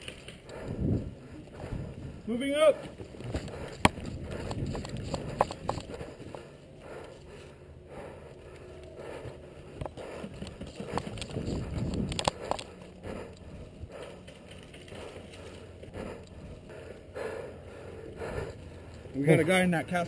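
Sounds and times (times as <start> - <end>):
gear rustling: 0.0 - 17.1.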